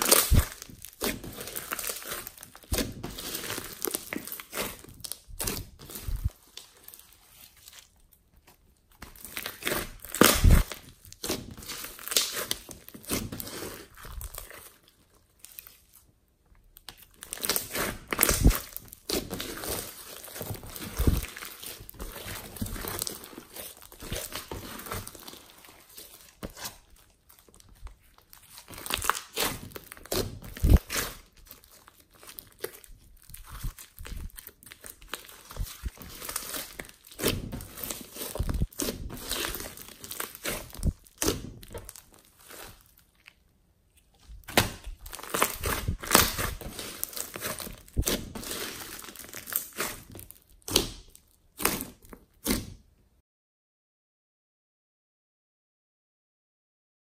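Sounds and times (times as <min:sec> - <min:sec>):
slime squelching and crackling: 0:00.0 - 0:52.9.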